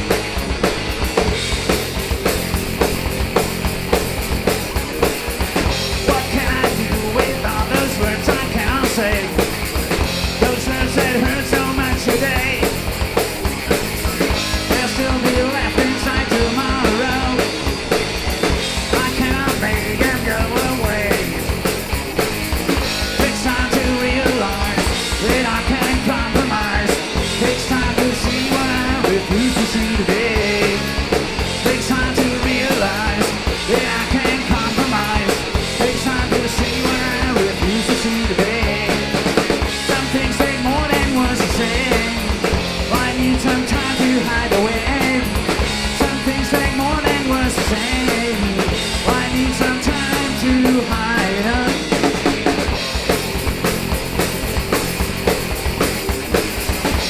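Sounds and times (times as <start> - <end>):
drum kit beat: 0.0 - 57.0
rock band playing live: 0.0 - 57.0
vocals: 5.2 - 22.0, 22.7 - 53.1.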